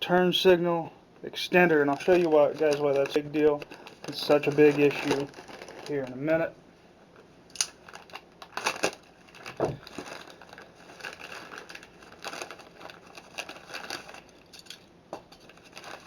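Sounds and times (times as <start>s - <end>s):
packaging rustling and crinkling: 1.5s - 6.5s, 7.1s - 16.0s.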